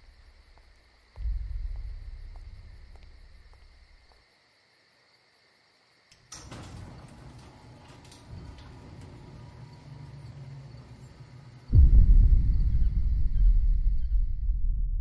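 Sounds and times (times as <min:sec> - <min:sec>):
low hum: 0:00.0 - 0:04.2, 0:06.6 - 0:15.0
crickets chirping faintly: 0:00.0 - 0:14.8.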